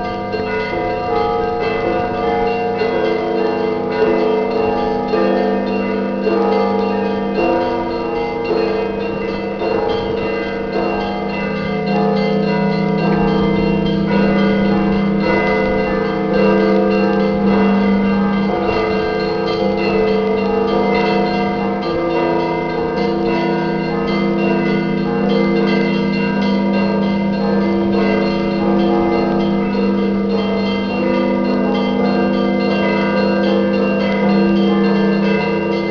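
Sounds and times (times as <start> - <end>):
church bells pealing: 0.0 - 35.9.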